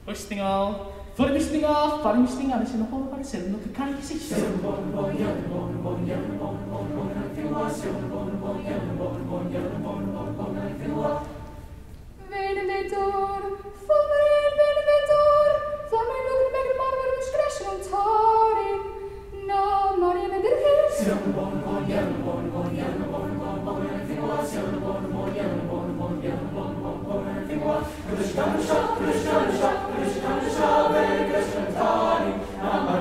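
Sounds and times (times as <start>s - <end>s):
choir singing a cappella: 4.1s - 33.0s.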